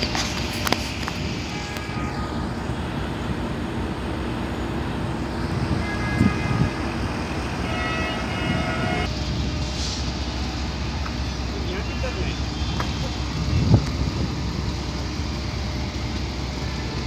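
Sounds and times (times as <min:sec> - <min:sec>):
train engine rumbling: 0:00.0 - 0:17.0.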